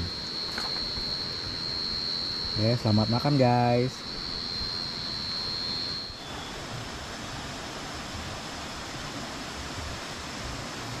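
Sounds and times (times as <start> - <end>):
high insect trill: 0.0 - 9.0.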